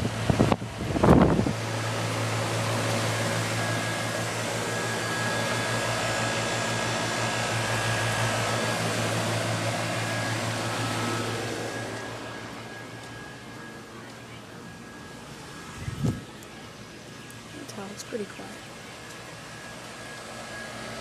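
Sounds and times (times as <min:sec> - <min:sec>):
compressor humming: 0:00.0 - 0:21.0
condenser fan air rush: 0:00.0 - 0:21.0.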